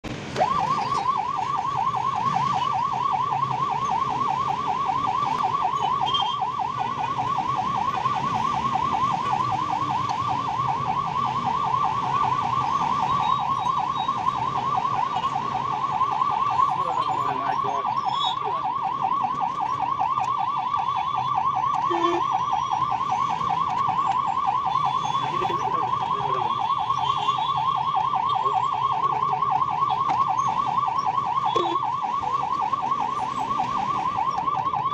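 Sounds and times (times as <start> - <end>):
traffic noise: 0.0 - 34.9
ambulance siren warbling: 0.1 - 34.9.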